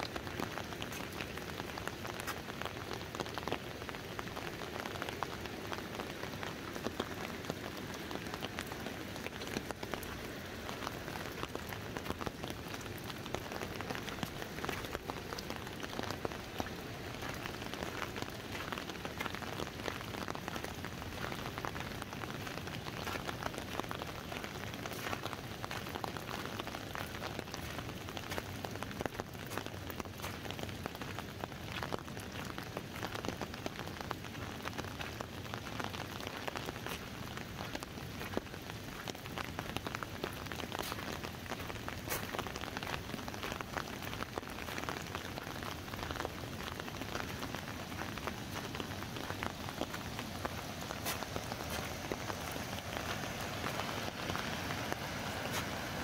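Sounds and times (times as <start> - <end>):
rain hiss on water and ground: 0.0 - 56.0
raindrops ticking on umbrella: 0.0 - 56.0.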